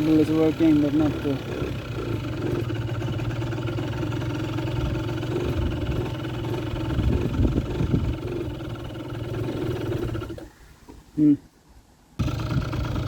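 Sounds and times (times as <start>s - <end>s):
scooter engine idling: 0.0s - 10.6s, 12.2s - 13.0s.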